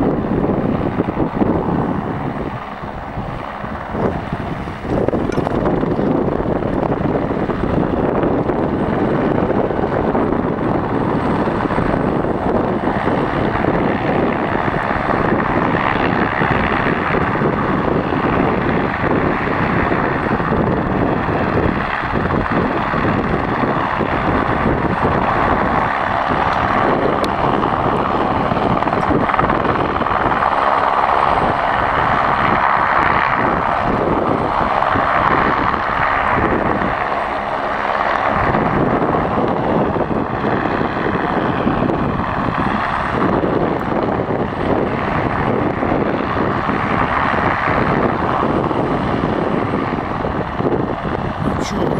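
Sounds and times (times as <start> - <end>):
helicopter engine and rotor: 0.0 - 51.9.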